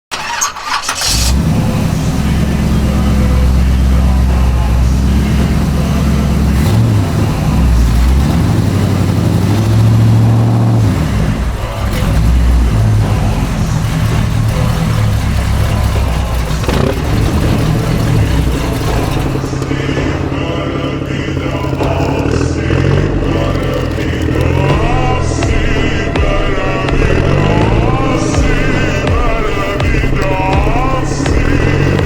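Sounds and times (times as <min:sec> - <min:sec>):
toy tractor engine drone: 0:00.1 - 0:32.0.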